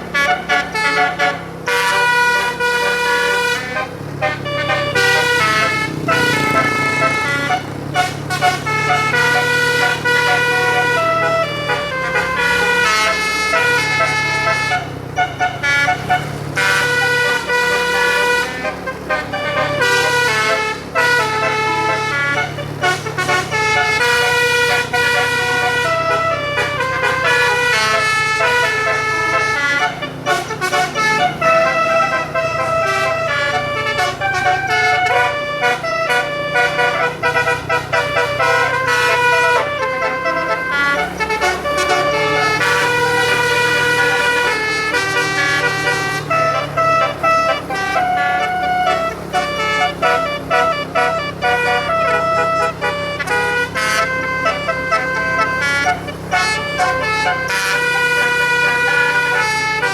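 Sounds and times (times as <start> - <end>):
bus horn playing a tune: 0.0 - 59.9.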